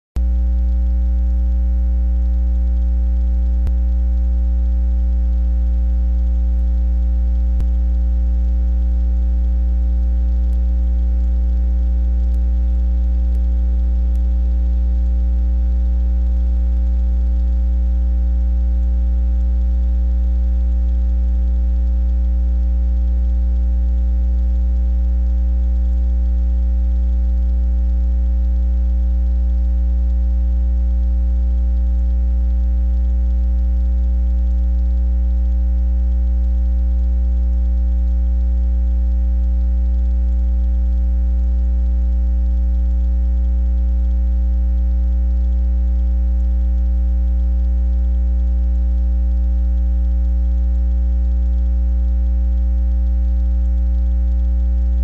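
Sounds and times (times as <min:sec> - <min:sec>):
electrical mains hum: 0:00.2 - 0:55.0.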